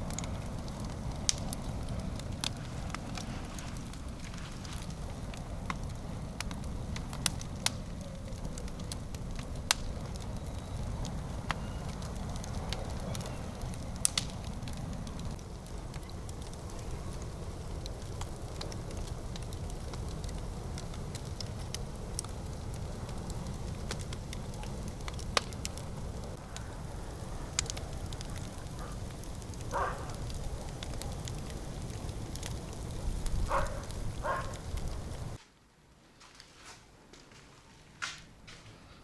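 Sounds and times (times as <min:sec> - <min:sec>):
bonfire rushing: 0:00.0 - 0:35.4
fire crackling and popping: 0:00.0 - 0:35.5.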